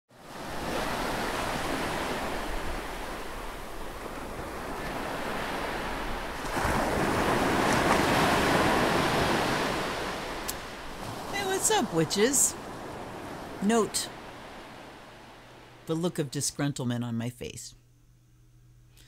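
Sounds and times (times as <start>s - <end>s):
ocean waves surf: 0.1s - 16.2s.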